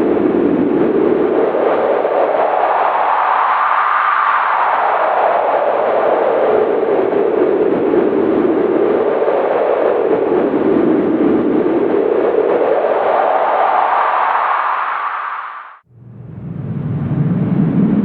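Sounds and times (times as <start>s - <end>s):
howling wind: 0.0s - 18.0s.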